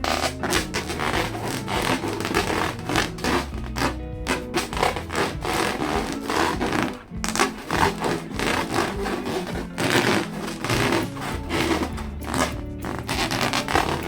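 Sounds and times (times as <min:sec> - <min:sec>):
hands rubbing balloons: 0:00.0 - 0:14.0.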